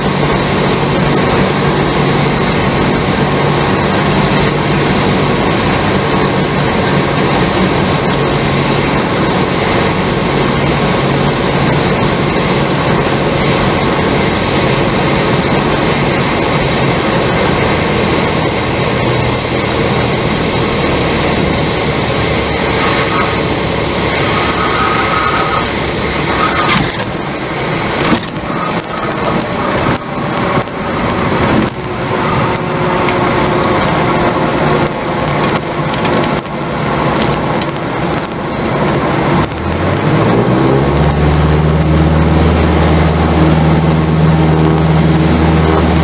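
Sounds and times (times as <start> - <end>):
aircraft engine and propeller: 0.0 - 46.0
airflow noise: 0.0 - 46.0.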